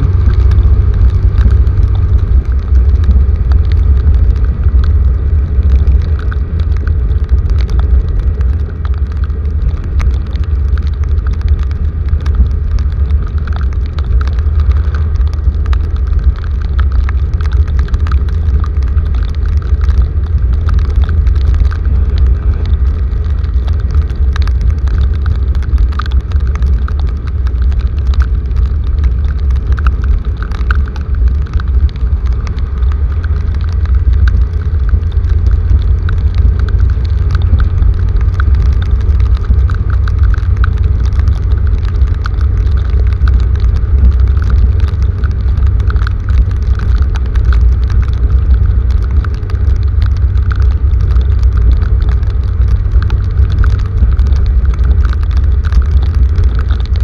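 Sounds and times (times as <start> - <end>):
heavy rain falling: 0.0 - 57.0
rain drop ticks: 0.0 - 57.0.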